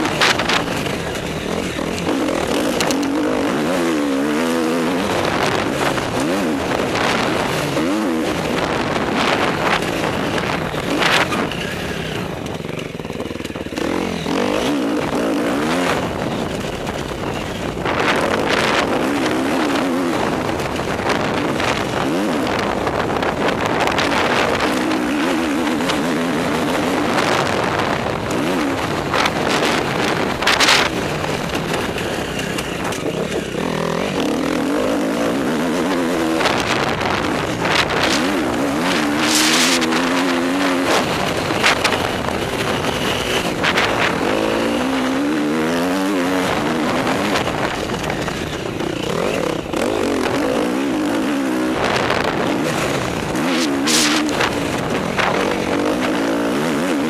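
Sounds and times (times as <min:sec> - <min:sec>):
motorbike engine revving: 0:00.0 - 0:57.0
wind rushing on microphone: 0:00.0 - 0:57.0.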